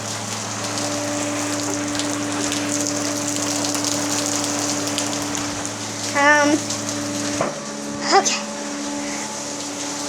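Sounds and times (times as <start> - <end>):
rain pouring: 0.0 - 10.0.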